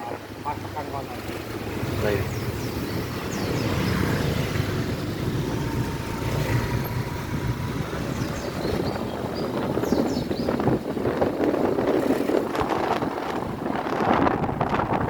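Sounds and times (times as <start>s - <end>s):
motorbike engine rumbling: 0.0s - 15.0s
road and wind noise: 0.0s - 15.0s.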